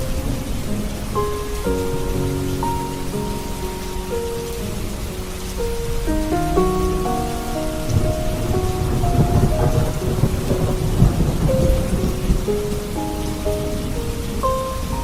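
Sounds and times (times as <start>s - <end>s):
rumble of thunder: 0.0s - 15.0s
soft slow music: 0.0s - 15.0s
steady rain: 0.0s - 15.0s.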